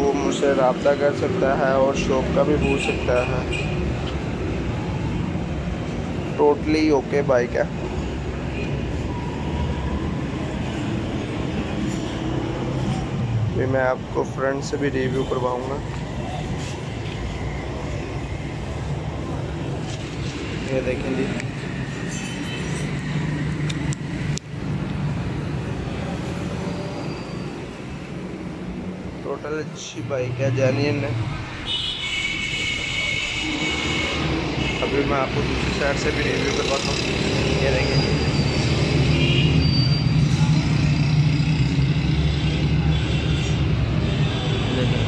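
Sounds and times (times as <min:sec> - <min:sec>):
vehicle engines rumbling: 0:00.0 - 0:45.0.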